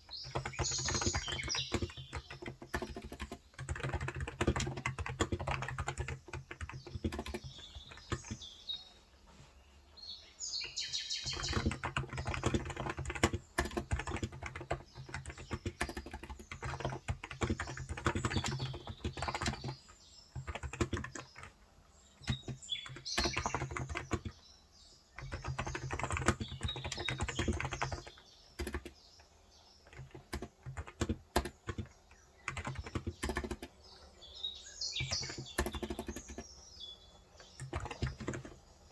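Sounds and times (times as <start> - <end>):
small birds chirping: 0.0 - 38.9
keyboard typing clicks: 0.1 - 8.5, 10.6 - 21.5, 22.2 - 24.4, 25.2 - 29.0, 29.8 - 33.8, 35.0 - 36.5, 37.4 - 38.6.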